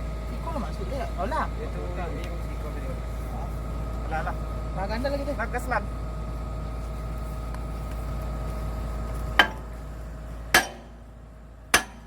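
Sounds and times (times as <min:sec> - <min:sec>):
excavator engine humming: 0:00.0 - 0:12.0.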